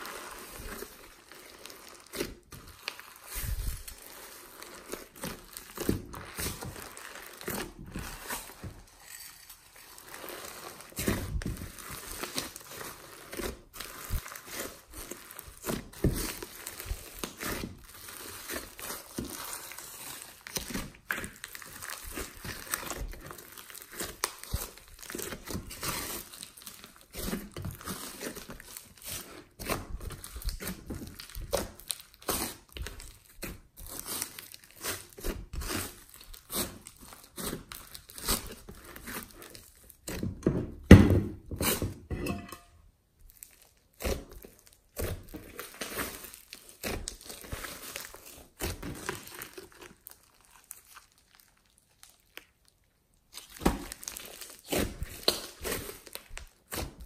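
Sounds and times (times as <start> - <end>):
hands squishing slime: 0.0 - 40.2, 43.4 - 57.0.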